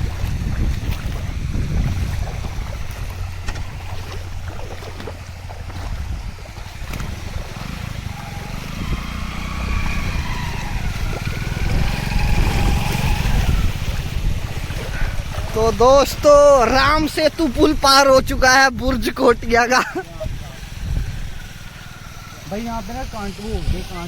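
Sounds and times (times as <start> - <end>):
river water rushing: 0.0 - 17.9, 19.1 - 24.0
wind buffeting microphone: 0.0 - 24.0.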